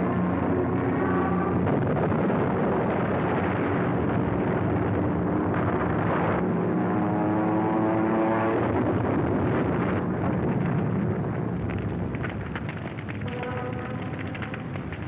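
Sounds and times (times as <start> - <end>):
aircraft engines roaring: 0.0 - 15.0.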